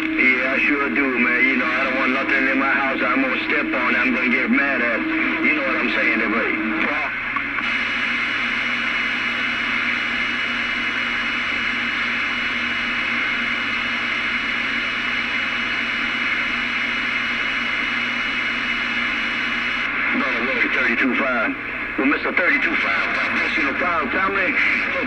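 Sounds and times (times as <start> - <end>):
radio static hiss: 0.0 - 25.0.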